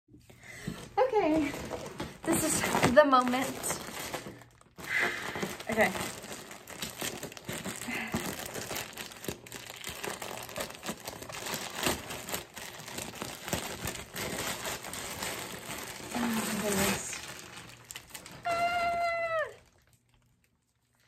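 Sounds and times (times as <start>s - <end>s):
plastic mailer crinkling: 0.9s - 21.0s.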